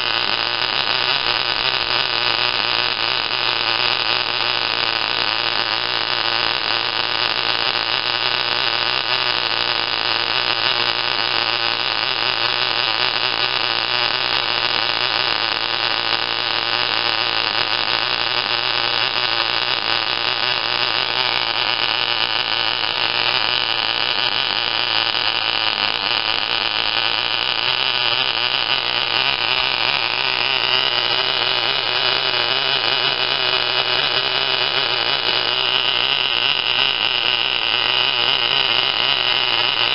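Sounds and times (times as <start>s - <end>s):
model engine buzzing whine: 0.0s - 39.9s.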